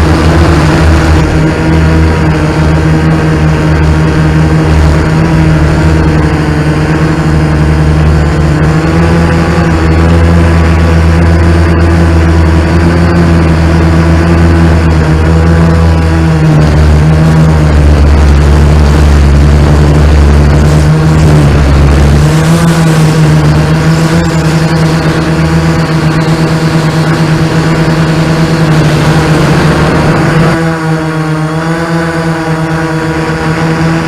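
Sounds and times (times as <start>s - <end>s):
drone propellers humming: 0.0s - 34.0s.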